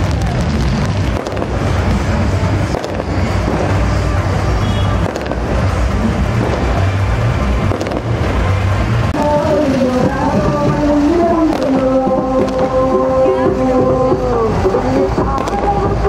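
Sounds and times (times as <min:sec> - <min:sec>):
dense crowd noise: 0:00.0 - 0:16.0
procession music: 0:01.1 - 0:16.0.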